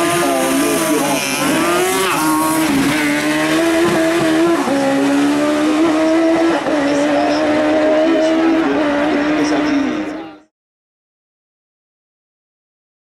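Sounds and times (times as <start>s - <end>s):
race car engine at high revs: 0.0s - 10.5s.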